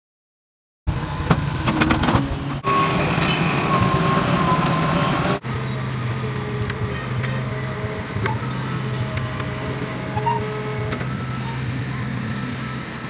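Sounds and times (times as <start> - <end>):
excavator diesel engine running: 0.9 - 13.0
hydraulic whine: 0.9 - 13.0.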